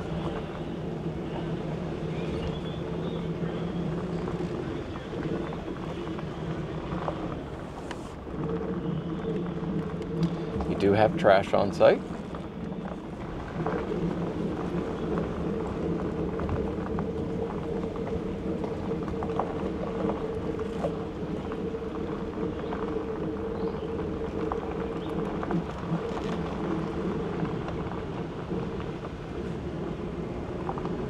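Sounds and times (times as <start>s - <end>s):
truck engine running: 0.0s - 31.0s
tyres clicking on gravel: 0.0s - 31.0s.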